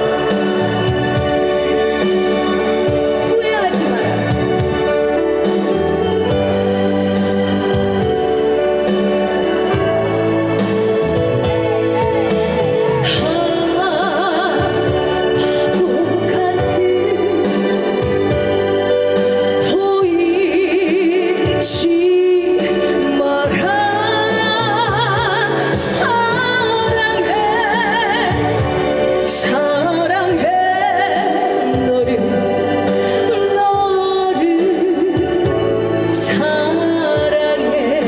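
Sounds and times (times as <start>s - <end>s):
keyboard backing track: 0.0s - 38.0s
person singing with vibrato: 0.0s - 38.0s.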